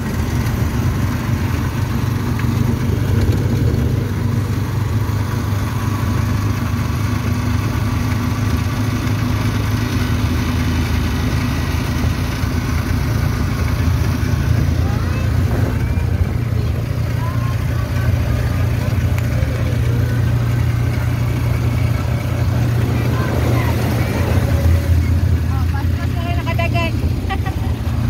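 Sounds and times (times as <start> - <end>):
motorcycle engine running: 0.0 - 28.0
road noise: 0.0 - 28.0.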